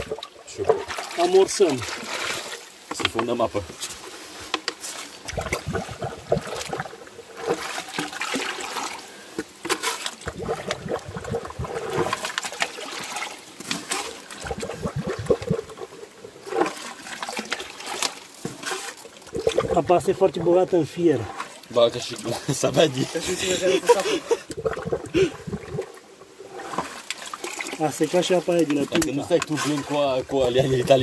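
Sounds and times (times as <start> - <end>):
water trickling: 0.0 - 4.2, 4.9 - 31.0.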